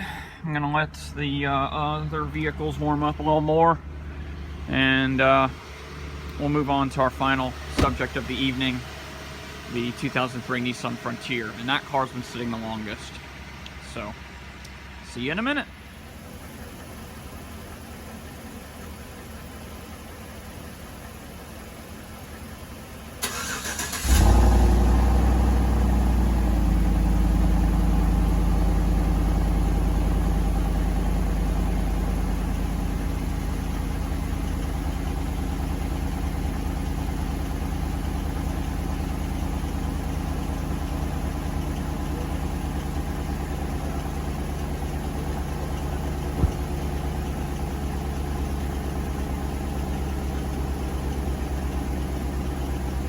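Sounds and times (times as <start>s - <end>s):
car engine cranking and idling: 0.0s - 53.0s.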